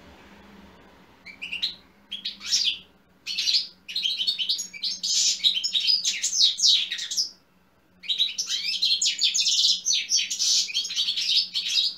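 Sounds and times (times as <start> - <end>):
finch twittering song: 1.2 - 7.4, 8.0 - 11.9.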